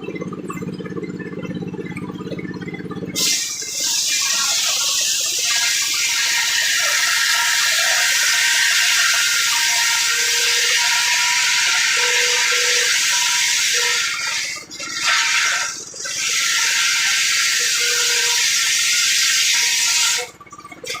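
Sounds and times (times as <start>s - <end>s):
circular saw cutting wood: 3.2s - 20.4s.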